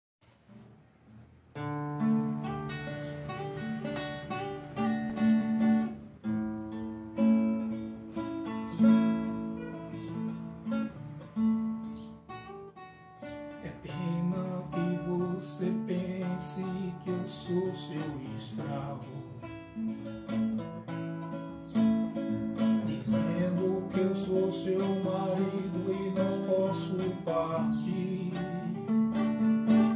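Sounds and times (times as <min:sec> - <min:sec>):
classical guitar strumming chords: 0:00.3 - 0:29.9.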